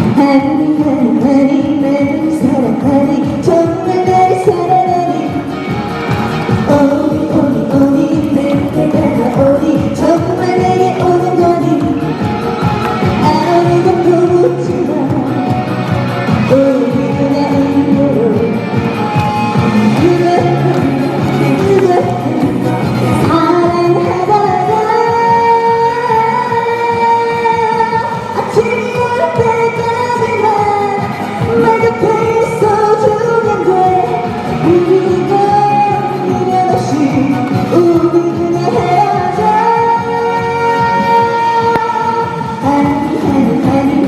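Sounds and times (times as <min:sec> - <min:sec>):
woman singing: 0:00.0 - 0:05.8, 0:06.5 - 0:44.0
amplified backing music: 0:00.0 - 0:44.0.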